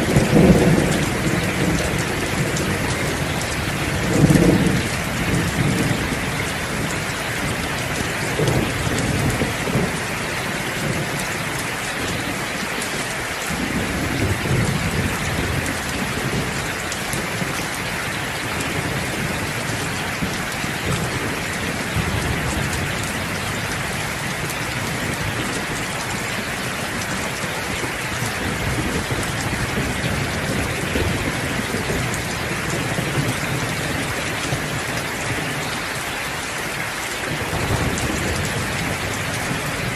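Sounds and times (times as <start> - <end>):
thunder rumbling: 0.0 - 36.0, 37.2 - 39.9
steady rainfall: 0.0 - 39.9.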